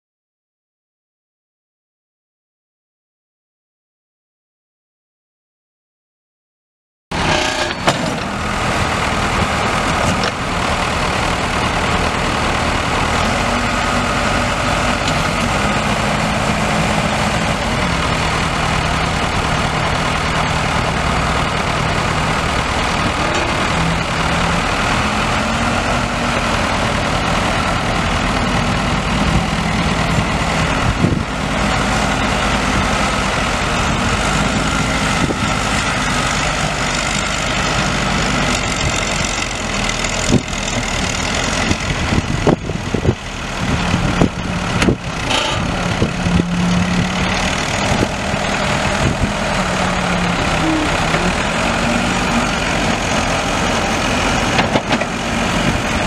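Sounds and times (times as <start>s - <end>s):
diesel engine running: 7.1s - 56.0s.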